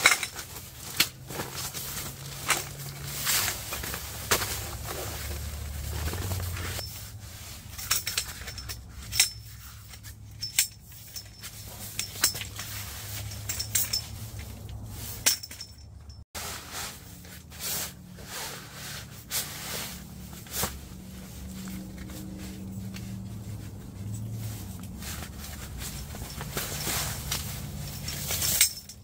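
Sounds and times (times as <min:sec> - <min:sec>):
metal poles clinking: 0:00.0 - 0:16.2, 0:18.9 - 0:29.0.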